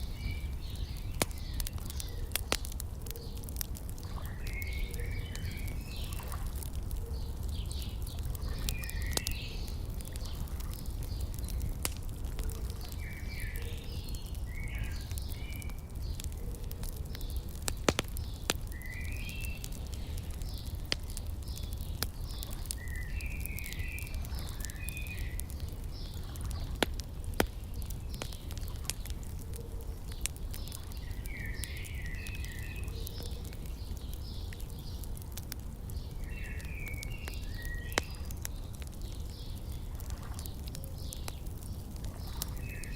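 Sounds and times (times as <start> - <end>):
small birds chirping: 0.0 - 42.9
wood fire crackling and popping: 0.0 - 42.9.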